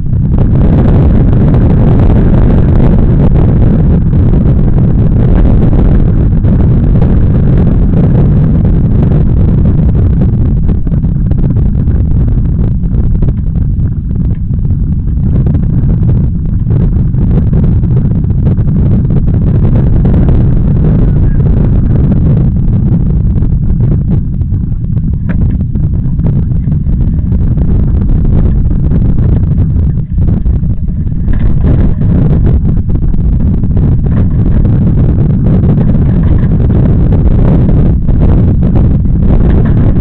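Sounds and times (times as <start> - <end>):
water rushing along hull: 0.0 - 40.0
wind buffeting microphone: 0.0 - 40.0.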